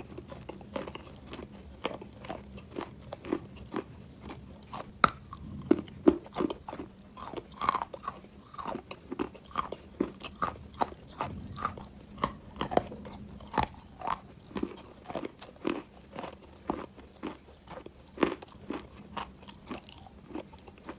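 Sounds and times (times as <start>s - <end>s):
wet chalk chewing crunches: 0.0s - 20.9s.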